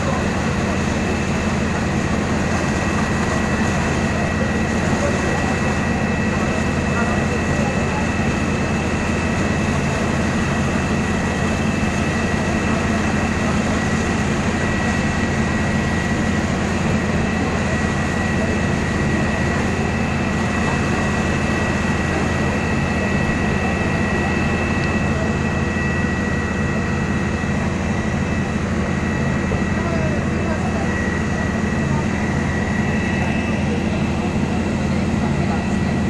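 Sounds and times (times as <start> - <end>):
fire engine diesel engines droning: 0.0 - 36.0
steady high whine: 0.0 - 36.0.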